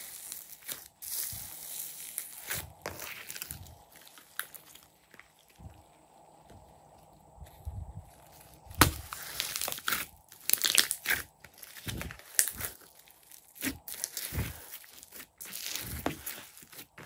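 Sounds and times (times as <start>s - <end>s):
slime squishing: 0.0s - 5.7s, 8.3s - 17.0s.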